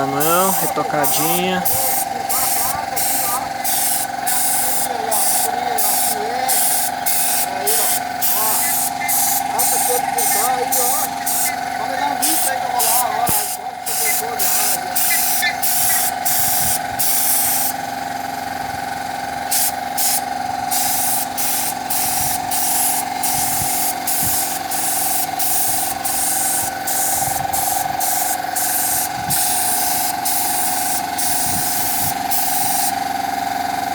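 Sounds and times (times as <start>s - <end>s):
paint spray gun hissing: 0.0s - 18.3s, 19.5s - 33.1s
air compressor humming: 0.0s - 33.9s.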